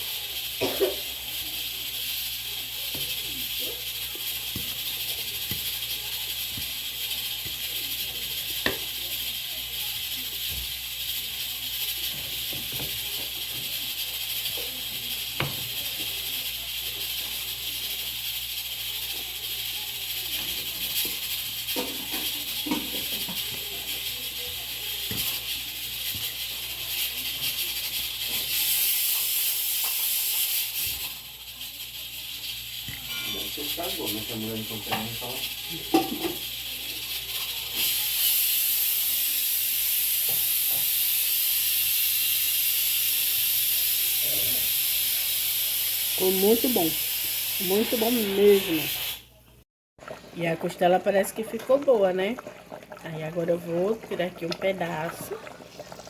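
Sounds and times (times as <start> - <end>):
steam hissing from pot: 0.0 - 49.4, 50.0 - 56.0.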